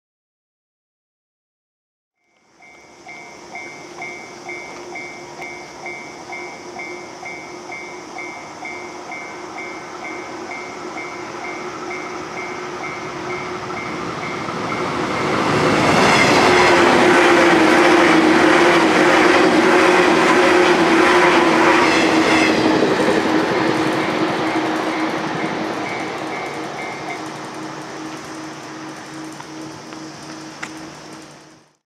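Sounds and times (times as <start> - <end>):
level crossing warning bell: 2.2 - 31.6
train passing at high speed: 2.2 - 31.8.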